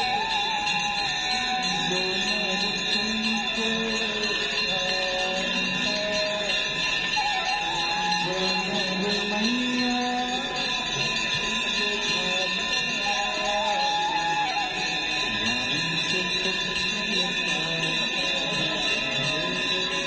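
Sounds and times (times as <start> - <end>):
person singing slow melody: 0.0 - 20.0.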